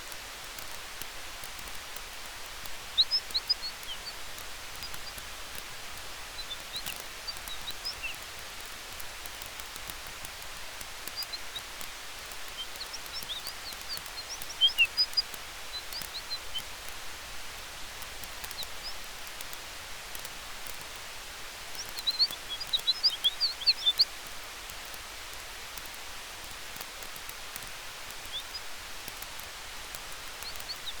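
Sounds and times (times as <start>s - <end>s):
campfire crackling: 0.0s - 31.0s
wind through trees: 0.0s - 31.0s.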